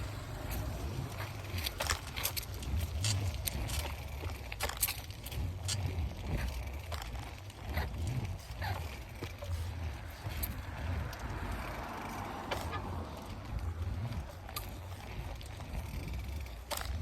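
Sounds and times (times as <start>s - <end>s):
bicycle rattling clicks: 0.0s - 17.0s.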